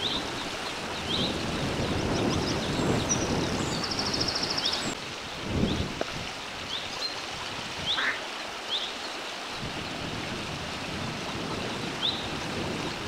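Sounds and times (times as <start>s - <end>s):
water: 0.0s - 13.0s
wind: 0.0s - 13.0s.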